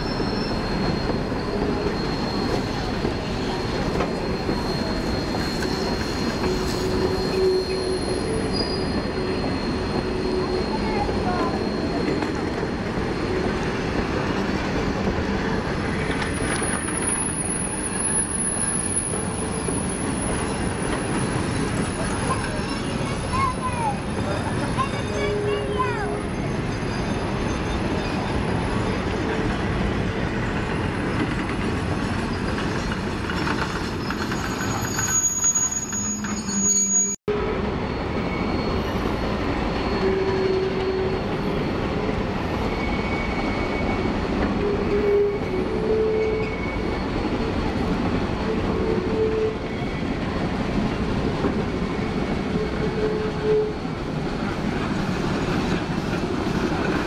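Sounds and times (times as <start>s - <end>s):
wheel flanges squealing: 0.0s - 37.2s, 37.9s - 57.0s
train rumbling and wheels clacking: 0.0s - 57.0s.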